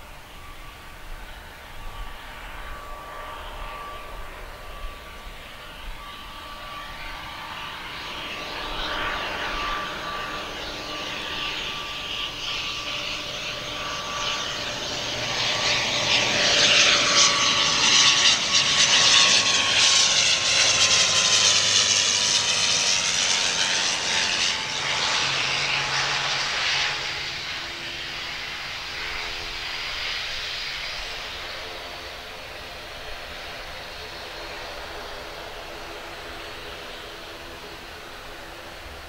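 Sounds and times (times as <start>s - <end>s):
turboprop plane passing: 0.0s - 39.0s.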